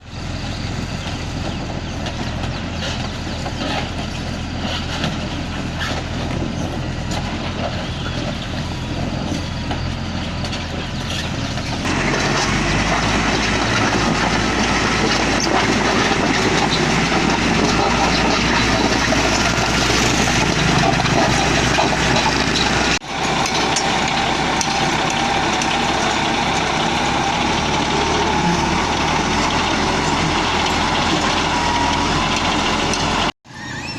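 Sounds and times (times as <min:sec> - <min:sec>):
truck diesel engine humming: 0:00.0 - 0:33.9.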